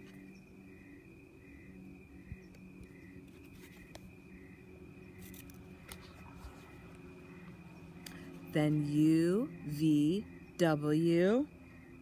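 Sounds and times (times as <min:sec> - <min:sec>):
insect trill: 0:00.0 - 0:12.0
low steady hum: 0:00.0 - 0:12.0
soft insect chirp: 0:00.0 - 0:12.0.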